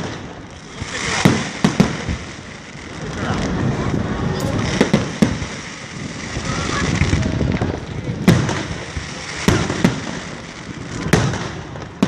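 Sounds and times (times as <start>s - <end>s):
fireworks bangs: 0.0s - 12.0s
rumble of fireworks shells: 0.0s - 12.0s.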